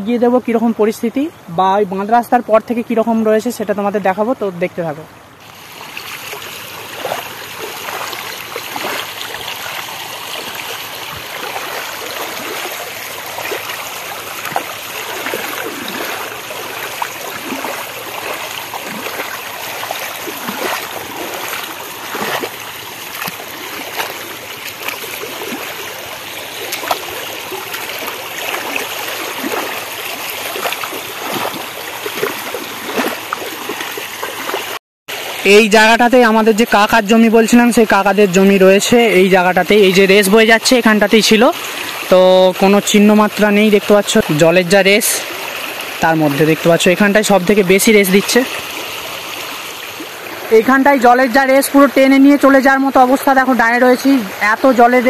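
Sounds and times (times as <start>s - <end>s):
floodwater rushing and gurgling: 0.0s - 55.0s.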